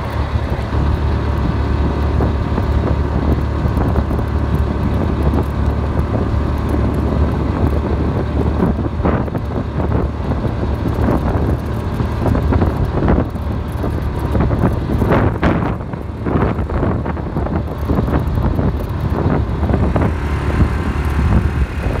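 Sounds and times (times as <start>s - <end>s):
gravel crunching and rattling: 0.0s - 22.0s
vehicle rumble: 0.0s - 22.0s.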